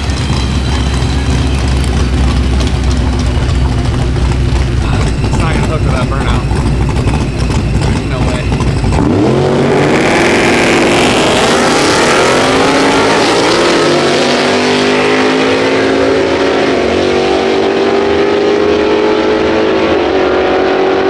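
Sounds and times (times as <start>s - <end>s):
drag car engine accelerating: 0.0s - 21.0s.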